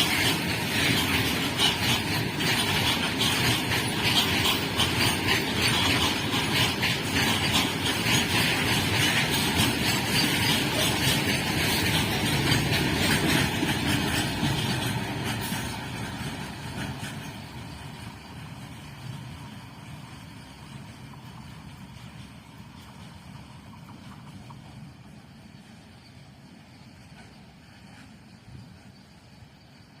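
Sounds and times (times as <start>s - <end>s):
train wheels clattering on rails: 0.0s - 30.0s.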